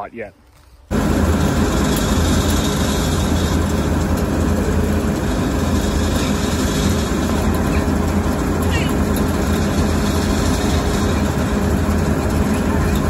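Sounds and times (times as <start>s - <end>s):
diesel engine drone: 0.8s - 13.0s.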